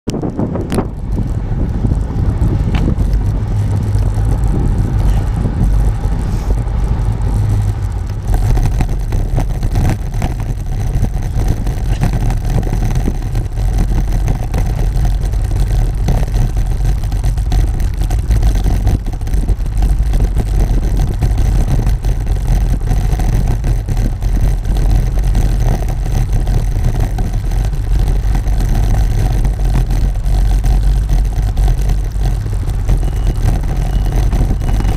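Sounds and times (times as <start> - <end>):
bicycle rattling over road: 0.1 - 34.9
wind on microphone: 0.1 - 34.9.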